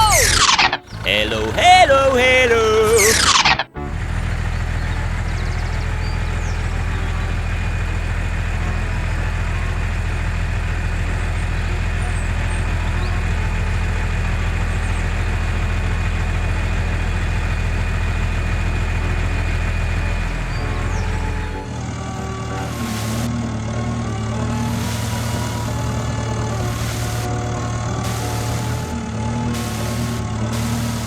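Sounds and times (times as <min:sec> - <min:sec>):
small engine idling: 0:00.0 - 0:31.0.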